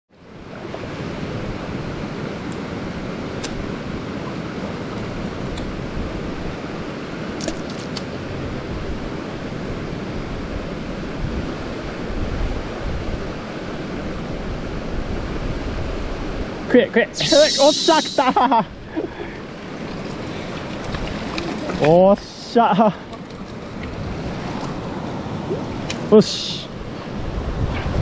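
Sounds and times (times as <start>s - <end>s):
stream rushing over rocks: 0.2s - 28.0s.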